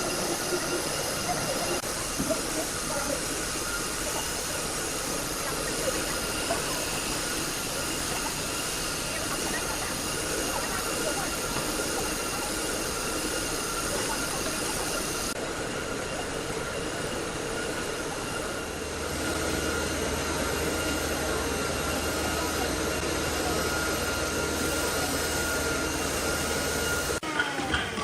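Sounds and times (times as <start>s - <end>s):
woodworking machinery running: 0.0s - 28.0s.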